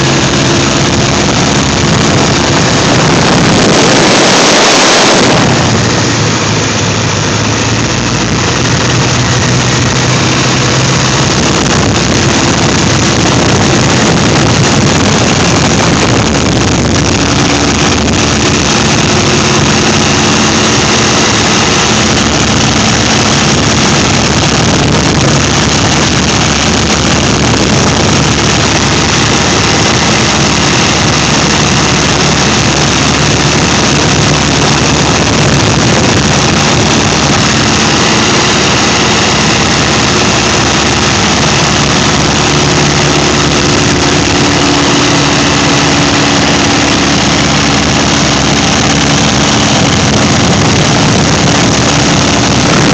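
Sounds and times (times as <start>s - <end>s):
light aircraft engine drone: 0.0s - 52.9s.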